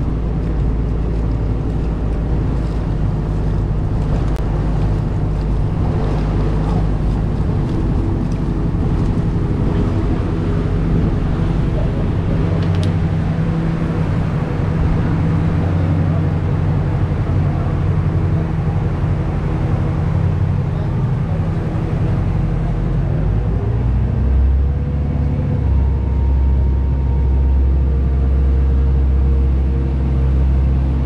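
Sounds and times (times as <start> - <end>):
boat engine drone: 0.0 - 31.0.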